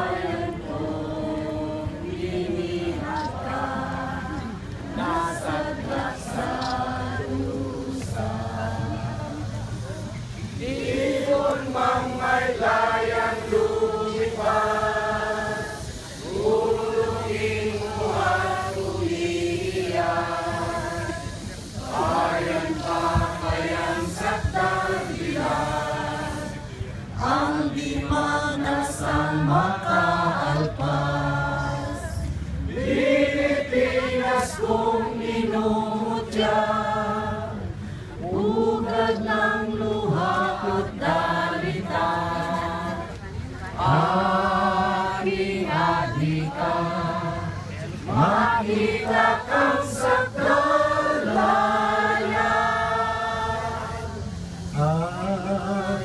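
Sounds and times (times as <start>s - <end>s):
group of people singing: 0.0s - 56.0s.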